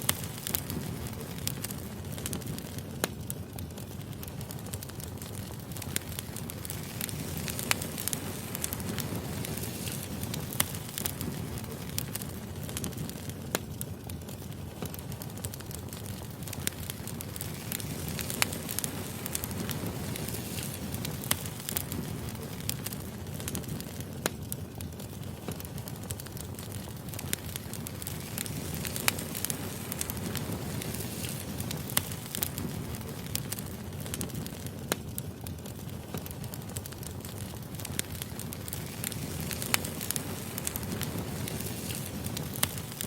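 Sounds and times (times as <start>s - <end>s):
fire crackling and popping: 0.0s - 43.0s
firewood burning: 0.0s - 43.0s.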